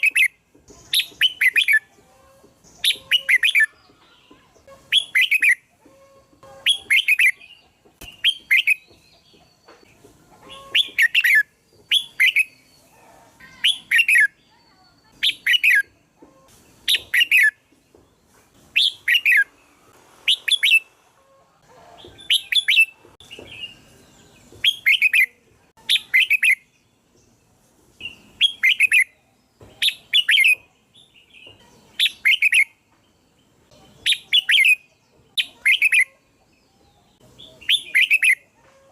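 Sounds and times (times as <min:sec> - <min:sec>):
bird singing bright phrases: 0:00.0 - 0:20.9, 0:22.0 - 0:38.6.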